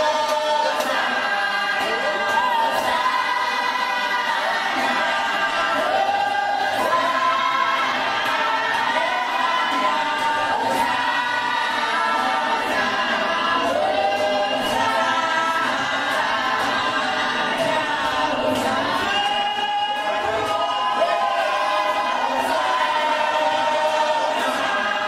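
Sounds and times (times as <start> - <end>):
congregation singing a hymn: 0.0 - 25.0.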